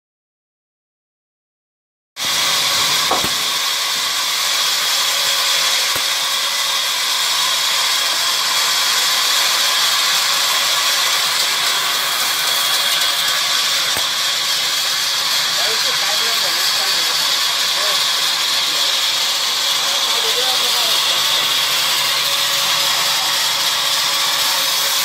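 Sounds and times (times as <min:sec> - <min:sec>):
band saw cutting through log: 0:02.2 - 0:25.0.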